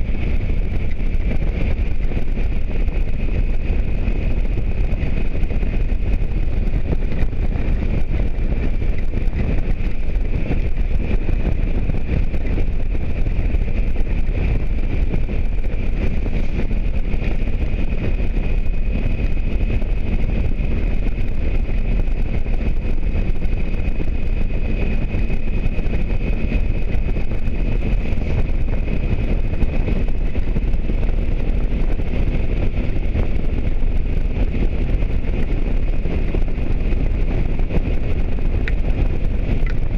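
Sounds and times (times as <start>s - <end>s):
motorcycle engine cruising: 0.0s - 39.9s
wind on the microphone: 0.0s - 39.9s.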